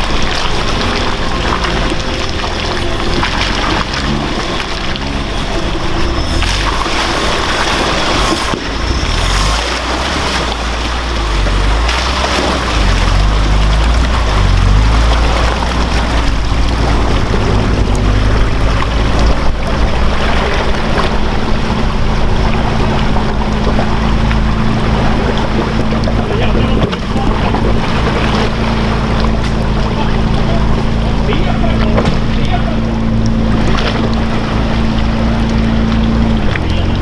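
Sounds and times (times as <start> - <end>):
truck engine running under load: 0.0 - 37.0
water splashing and churning: 0.0 - 37.0.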